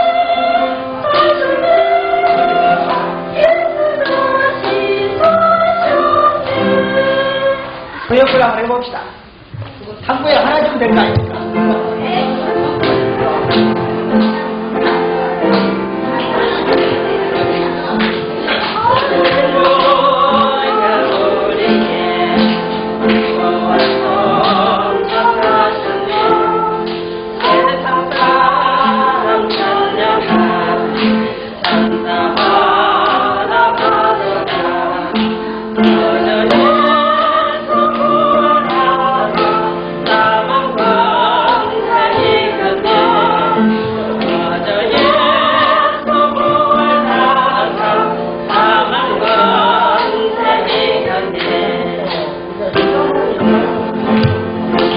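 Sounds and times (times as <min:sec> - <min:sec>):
group singing praise song: 0:00.0 - 0:08.1, 0:10.9 - 0:54.9
instrumental accompaniment: 0:00.0 - 0:54.9.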